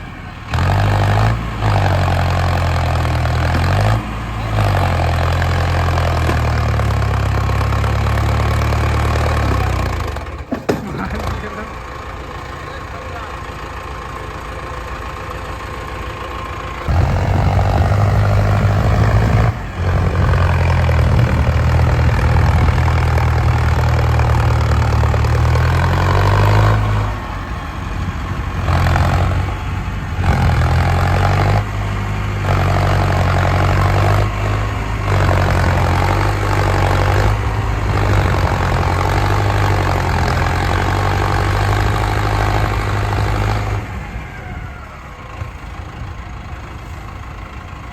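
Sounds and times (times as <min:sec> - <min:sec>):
tractor diesel engine revving: 0:00.0 - 0:47.9.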